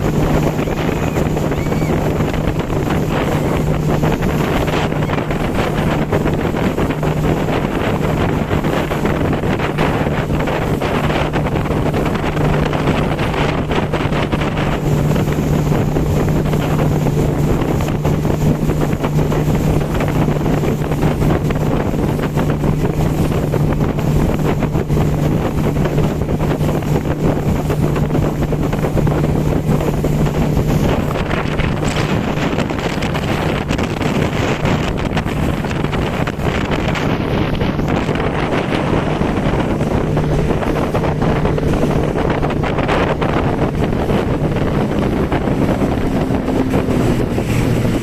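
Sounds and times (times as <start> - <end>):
motorboat engine humming: 0.0 - 48.0
water rushing past: 0.0 - 48.0
wind buffeting microphone: 0.0 - 48.0.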